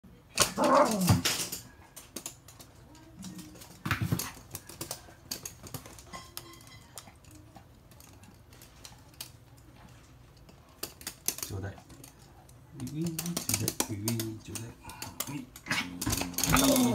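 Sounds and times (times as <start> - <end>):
dog claws clicking on hard floor: 0.4 - 16.9.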